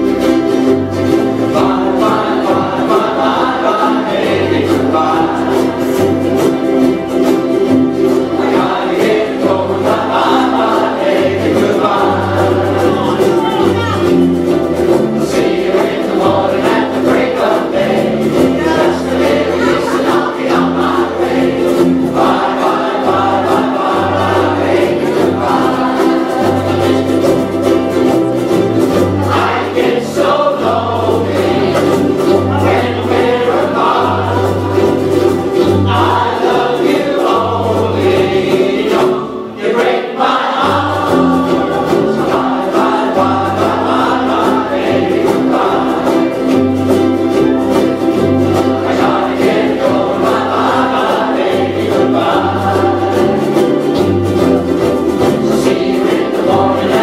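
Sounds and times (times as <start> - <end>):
people singing in chorus: 0.0 - 13.7, 14.8 - 57.0
ukulele ensemble strumming: 0.0 - 57.0.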